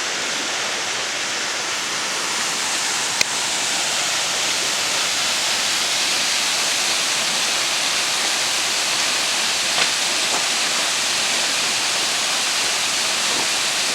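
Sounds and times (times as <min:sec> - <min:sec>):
waterfall pouring: 0:00.0 - 0:13.9.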